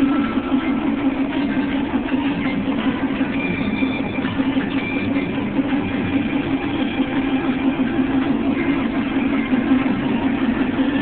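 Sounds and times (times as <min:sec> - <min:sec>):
snowcat engine running: 0:00.0 - 0:11.0.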